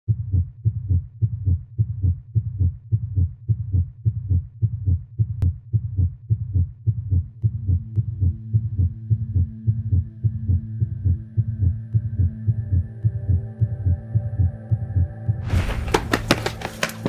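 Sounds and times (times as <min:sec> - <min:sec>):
heartbeat-like double thumps: 0:00.1 - 0:17.0.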